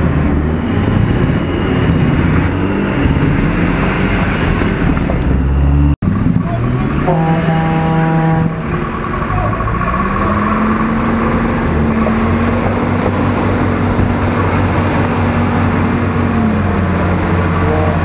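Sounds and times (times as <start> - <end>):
truck engine pulling under load: 0.0 - 18.0.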